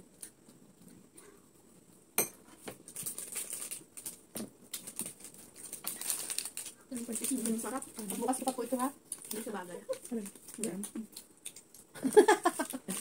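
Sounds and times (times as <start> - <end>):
rustling of eating: 0.0 - 13.0.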